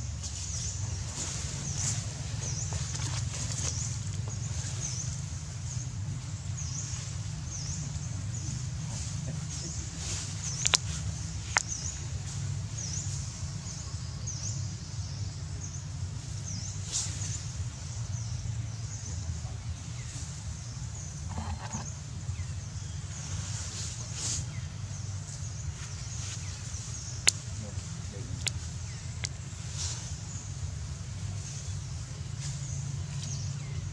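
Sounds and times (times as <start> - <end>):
steady low rumble: 0.0 - 33.9.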